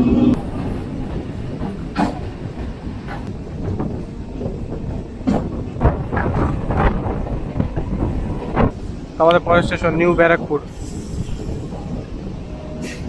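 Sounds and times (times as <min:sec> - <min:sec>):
train wheels rumbling on rail: 0:00.0 - 0:13.0
wheels clacking over rail joints: 0:00.3 - 0:13.0.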